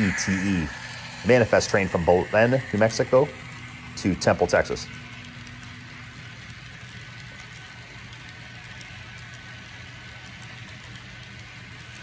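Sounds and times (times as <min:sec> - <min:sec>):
model train low hum: 0:00.0 - 0:12.0
model train wheel clicks: 0:00.0 - 0:12.0.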